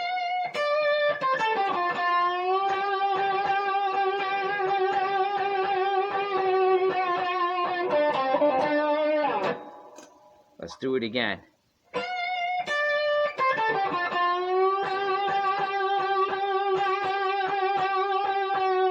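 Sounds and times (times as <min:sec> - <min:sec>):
electric guitar blues lick: 0:00.0 - 0:10.2, 0:11.9 - 0:18.9.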